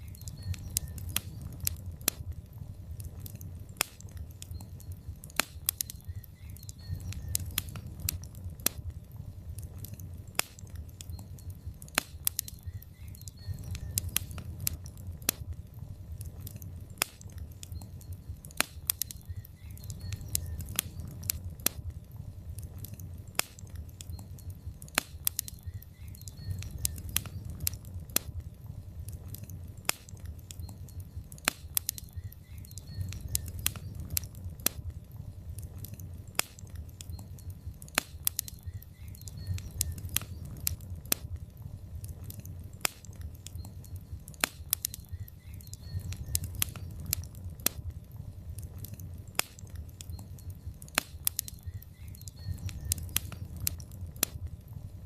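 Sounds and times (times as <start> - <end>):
fire pops and snaps: 0.0 - 55.0
low rumble of flames: 0.0 - 55.0.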